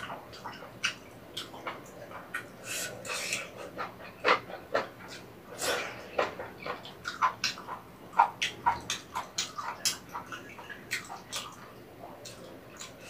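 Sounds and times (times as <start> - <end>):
wet mouth smacks and chewing: 0.0 - 13.0.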